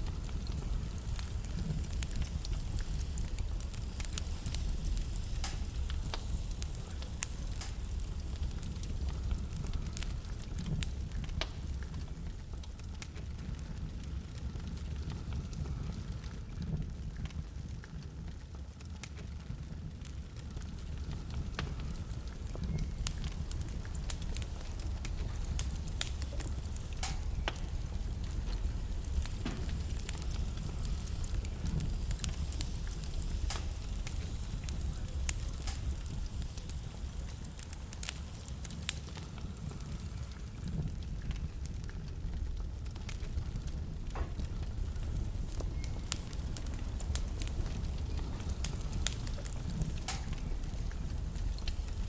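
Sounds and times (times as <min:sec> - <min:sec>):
fire flames rumbling: 0:00.0 - 0:52.0
logs crackling and popping: 0:00.0 - 0:52.0.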